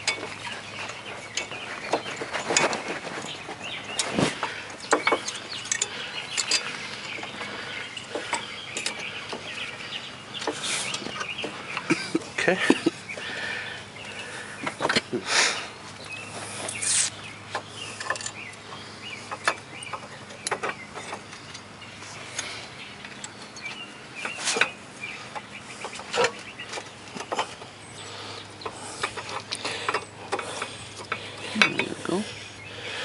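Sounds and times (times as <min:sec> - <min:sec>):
metallic clicks of brake pads: 0:00.0 - 0:15.2, 0:15.9 - 0:33.0.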